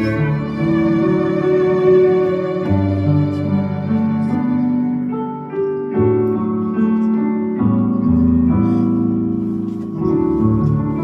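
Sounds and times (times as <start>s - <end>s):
cello and violin: 0.0s - 8.6s, 9.7s - 11.0s.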